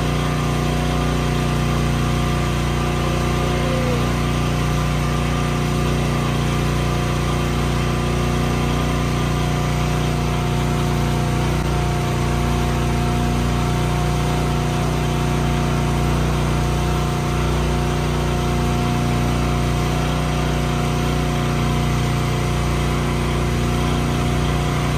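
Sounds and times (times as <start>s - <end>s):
feeding cart mechanical hum: 0.0s - 24.9s.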